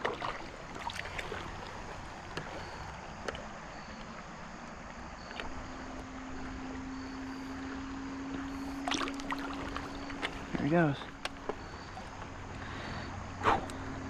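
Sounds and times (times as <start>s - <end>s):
creek water running over rocks: 0.0s - 13.4s
steady low hum: 0.0s - 14.0s.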